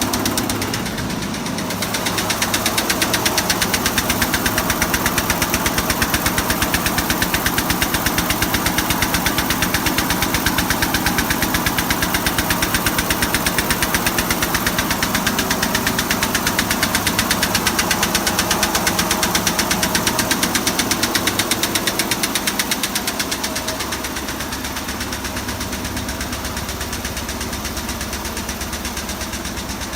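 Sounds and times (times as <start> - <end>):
quilting machine clattering: 0.0 - 29.9.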